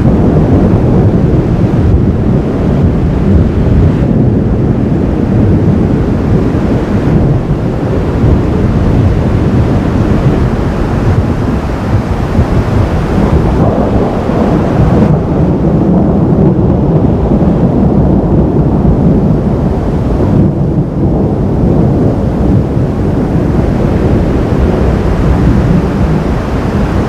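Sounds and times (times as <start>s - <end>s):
thunder rolling: 0.0s - 27.0s.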